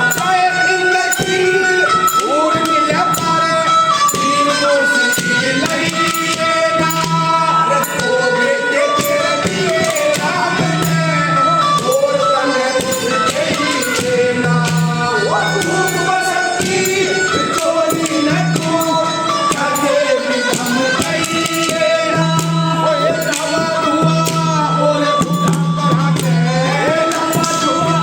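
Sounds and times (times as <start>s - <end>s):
held instrumental tones: 0.0s - 28.0s
jingling percussion beat: 0.0s - 28.0s
person singing: 0.0s - 28.0s.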